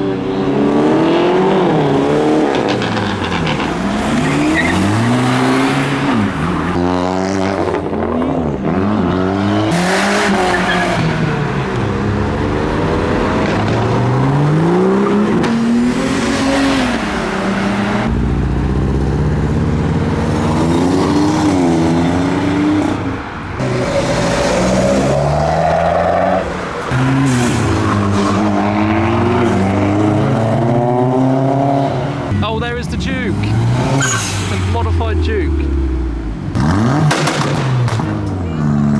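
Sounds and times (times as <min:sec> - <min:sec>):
cars revving and accelerating: 0:00.0 - 0:38.9.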